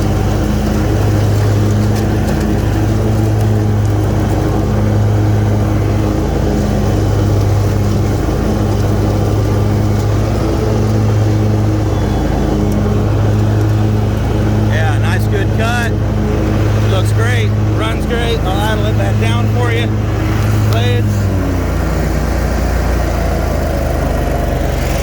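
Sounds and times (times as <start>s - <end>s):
mower blades cutting grass: 0.0s - 25.0s
mower engine at high throttle: 0.0s - 25.0s.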